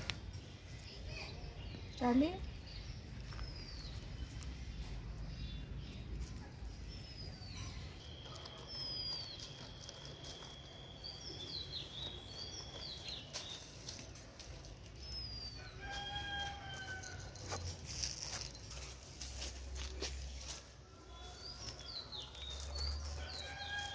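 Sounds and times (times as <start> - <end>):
birds chirping and whistling: 0.0 - 23.9
paws digging in dry leaves: 0.0 - 23.9.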